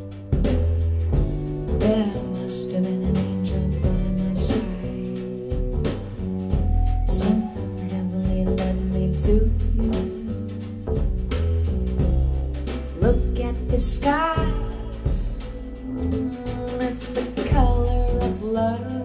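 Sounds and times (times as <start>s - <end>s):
band music through speakers: 0.0s - 19.0s
bass line: 0.0s - 19.0s.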